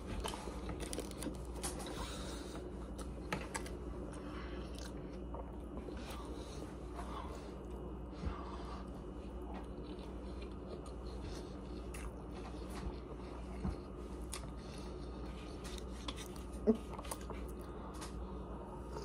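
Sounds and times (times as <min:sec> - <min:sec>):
low hum: 0:00.0 - 0:19.0
person chewing food: 0:00.0 - 0:19.0.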